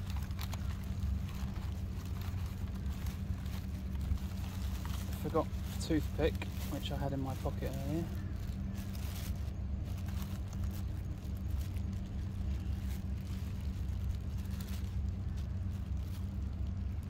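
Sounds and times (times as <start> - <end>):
faint rustling clicks: 0.0 - 17.0
low machine hum: 0.0 - 17.0.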